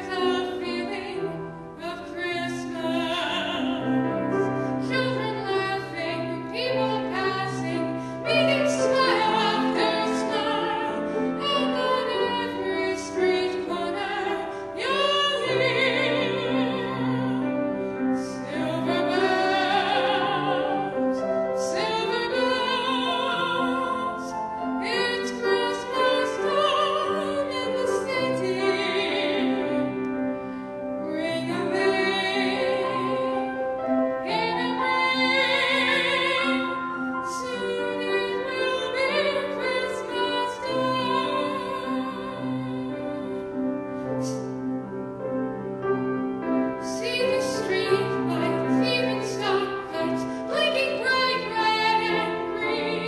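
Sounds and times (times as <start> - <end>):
woman singing soprano: 0.0 - 4.0, 4.8 - 17.6, 18.2 - 29.9, 31.1 - 33.5, 34.2 - 43.6, 46.8 - 53.0
grand piano: 0.0 - 53.0.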